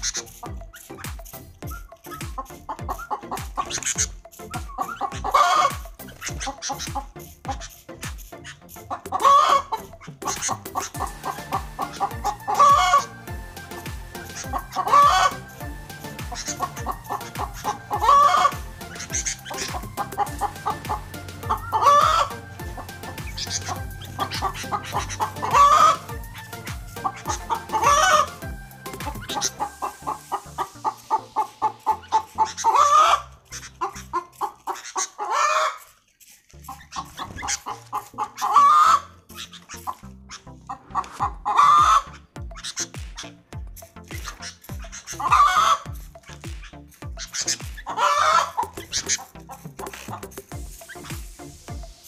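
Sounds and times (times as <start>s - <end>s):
bird calls: 0.0s - 52.0s.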